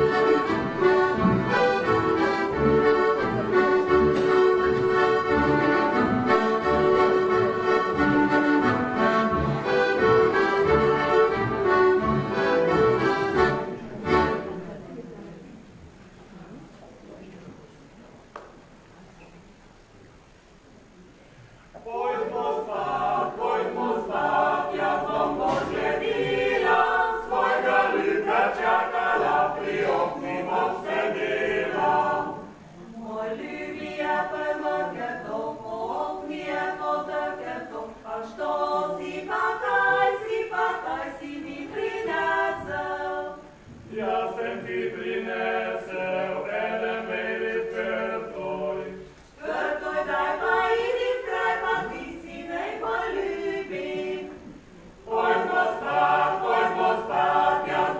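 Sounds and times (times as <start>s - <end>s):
group singing folk song: 0.0s - 14.7s, 21.7s - 57.9s.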